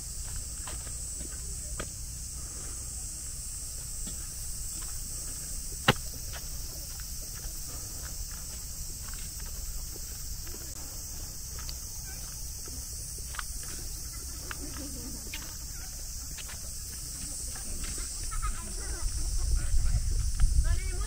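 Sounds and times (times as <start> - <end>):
footsteps on a path: 0.0 - 21.0
insects droning: 0.0 - 21.0.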